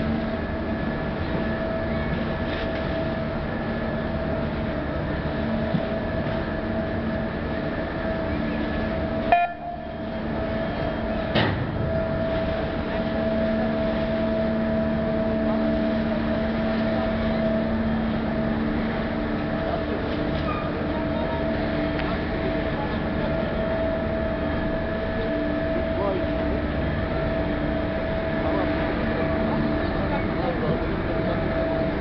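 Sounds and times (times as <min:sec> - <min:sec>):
ferry engine droning: 0:00.0 - 0:32.0.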